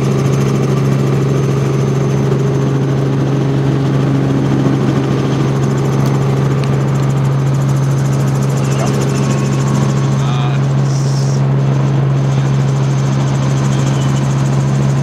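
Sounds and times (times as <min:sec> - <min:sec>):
helicopter cabin drone: 0:00.0 - 0:15.0.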